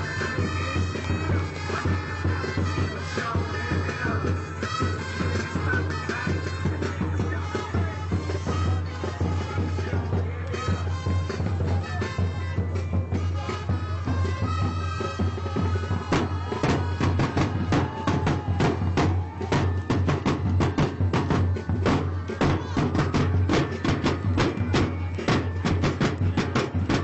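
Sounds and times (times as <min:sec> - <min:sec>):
band music with held notes: 0:00.0 - 0:27.0
rapid rhythmic drum strokes: 0:00.0 - 0:27.0.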